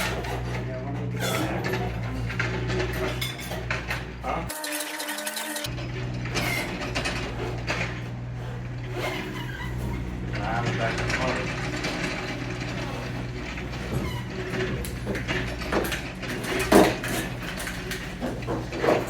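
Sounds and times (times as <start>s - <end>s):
metal clanking: 0.0s - 19.0s.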